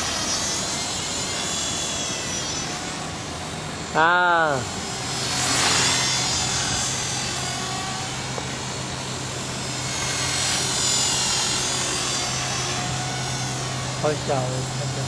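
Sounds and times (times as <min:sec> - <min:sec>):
helicopter rotor buzz: 0:00.0 - 0:15.0
high motor whine: 0:00.0 - 0:15.0.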